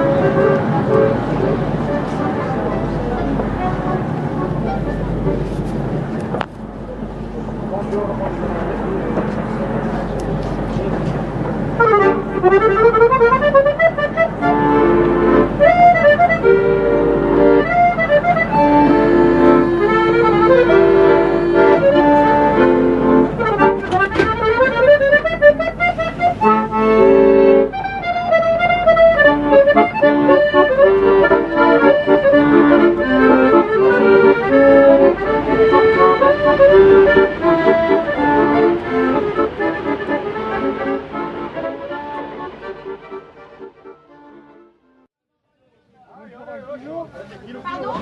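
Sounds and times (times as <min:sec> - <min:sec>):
accordion playing a tune: 0:00.0 - 0:45.1.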